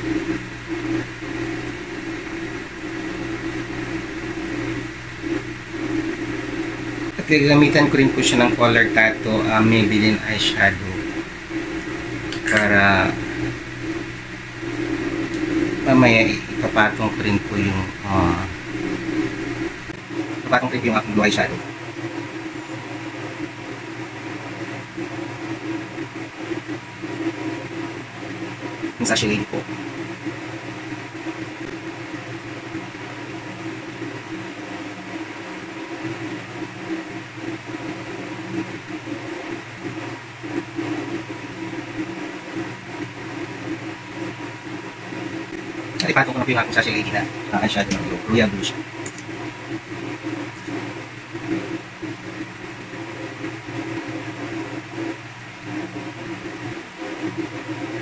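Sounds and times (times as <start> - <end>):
low mechanical hum with hiss: 0.0 - 58.0.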